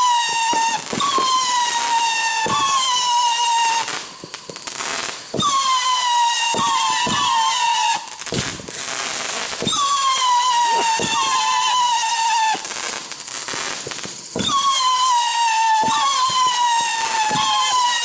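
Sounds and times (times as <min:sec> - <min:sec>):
firework launch and burst reports: 0:00.0 - 0:18.0
firework whistles: 0:00.0 - 0:18.0
noisy hiss: 0:00.0 - 0:18.0.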